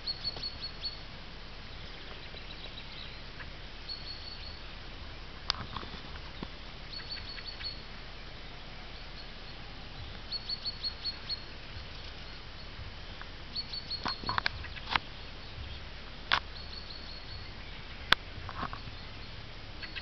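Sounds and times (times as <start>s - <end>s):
small bird chirping: 0.0s - 12.9s, 13.5s - 20.0s
faint steady hiss: 0.0s - 20.0s.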